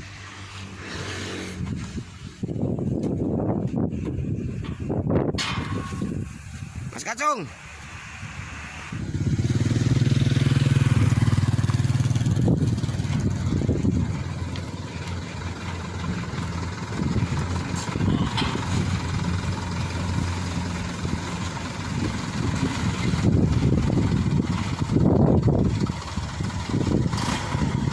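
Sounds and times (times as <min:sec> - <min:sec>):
engine running close by: 0:00.0 - 0:27.9.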